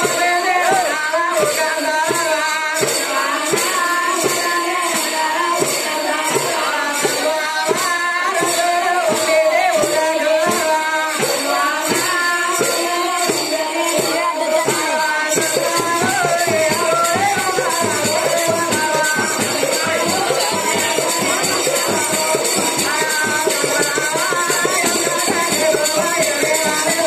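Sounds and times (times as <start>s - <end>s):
hand drum beat: 0.0s - 27.0s
jingling percussion: 0.0s - 27.0s.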